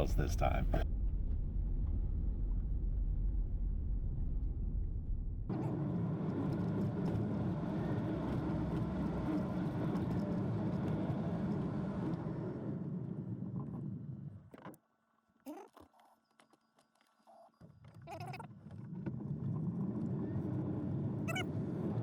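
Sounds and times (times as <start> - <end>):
car tyre and road noise: 0.0 - 14.8, 18.6 - 22.0.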